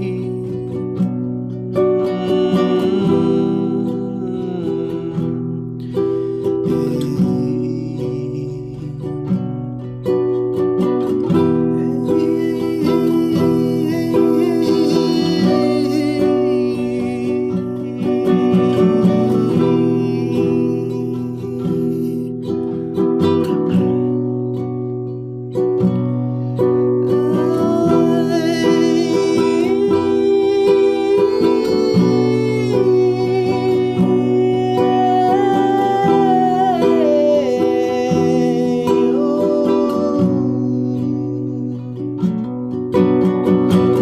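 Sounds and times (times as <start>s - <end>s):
person humming: 0.0s - 0.8s, 1.8s - 9.3s, 11.2s - 22.8s, 26.8s - 42.3s
acoustic guitar strumming: 0.0s - 44.0s.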